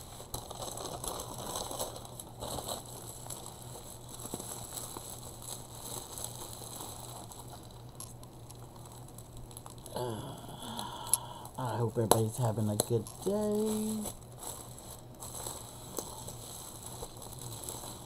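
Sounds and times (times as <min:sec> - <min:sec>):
bubble wrap crinkling: 0:00.0 - 0:18.0.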